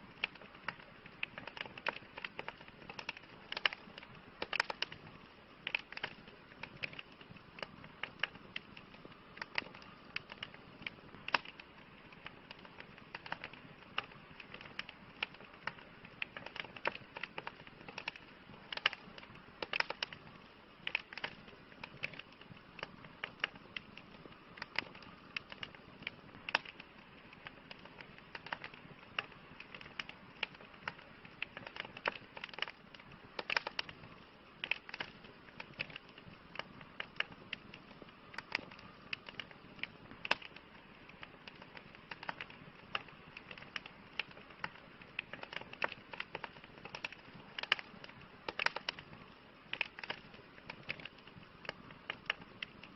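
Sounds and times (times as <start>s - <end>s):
fire hissing: 0.0s - 52.9s
wood crackling and popping: 0.0s - 52.9s.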